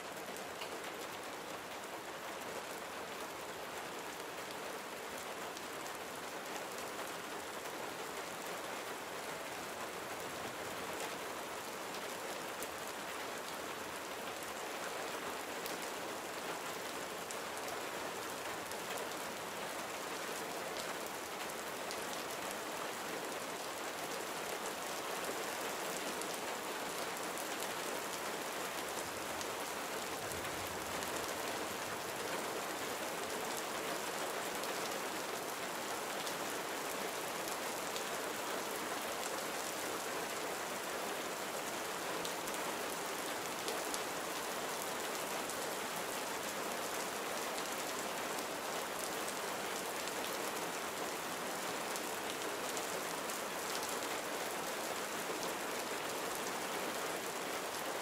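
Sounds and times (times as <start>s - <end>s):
gentle rain: 0.0s - 58.0s.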